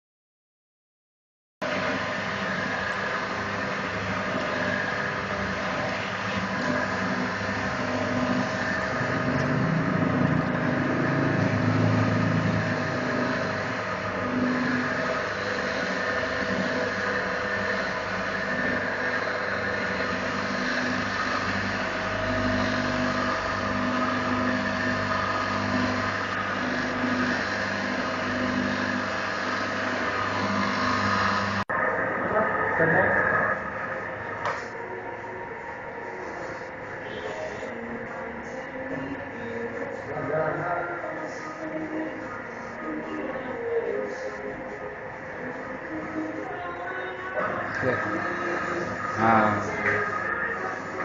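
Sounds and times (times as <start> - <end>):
machine motor hum with pulsing: 1.6 - 51.0.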